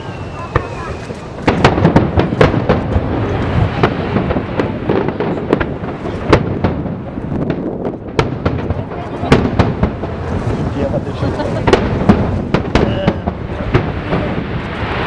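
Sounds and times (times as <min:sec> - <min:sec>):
fireworks bangs: 0:00.0 - 0:15.0
rolling rumble: 0:00.0 - 0:15.0.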